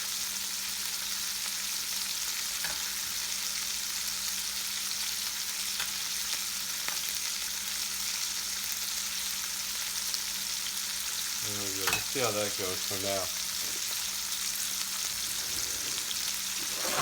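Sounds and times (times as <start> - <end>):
bacon sizzling in a pan: 0.0 - 17.0.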